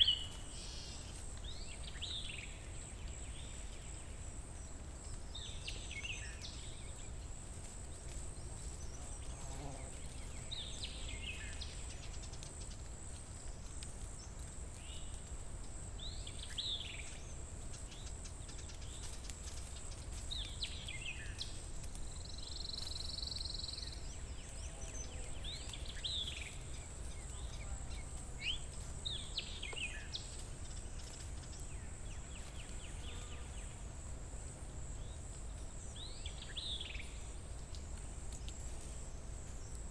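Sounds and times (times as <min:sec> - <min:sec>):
high insect hum: 0:00.0 - 0:39.9.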